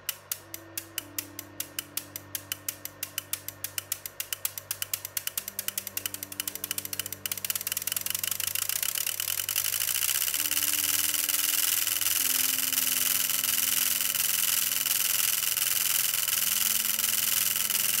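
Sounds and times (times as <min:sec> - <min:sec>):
relays clicking: 0:00.0 - 0:18.0.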